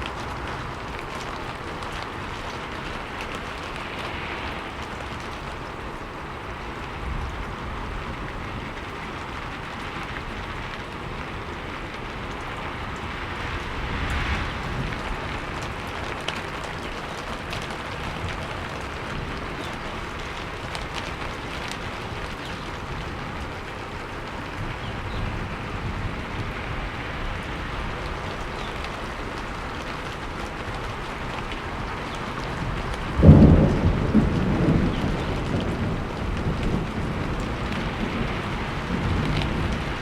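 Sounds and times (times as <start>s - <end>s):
rainfall hissing: 0.0s - 40.0s.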